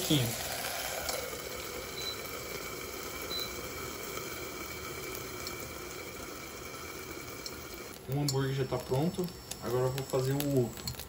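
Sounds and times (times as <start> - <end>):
patty sizzling in covered pan: 0.0 - 11.0.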